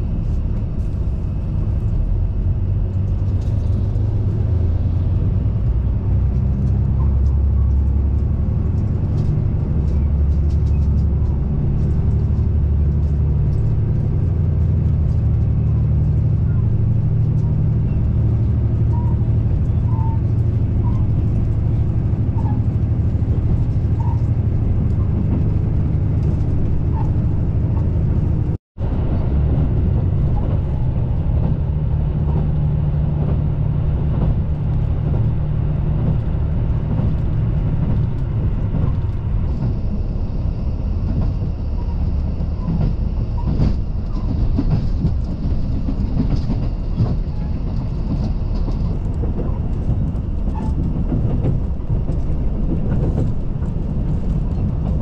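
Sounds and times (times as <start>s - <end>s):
diesel engine drone: 0.0s - 55.0s
rail and wheel noise: 0.0s - 55.0s.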